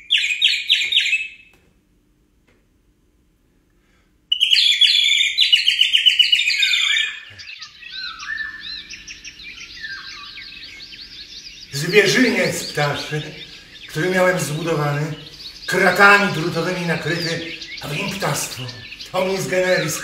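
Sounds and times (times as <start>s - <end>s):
birds chirping rapidly: 0.0s - 1.5s, 4.3s - 20.0s
chorus of many birds calling: 0.0s - 1.5s, 4.3s - 20.0s.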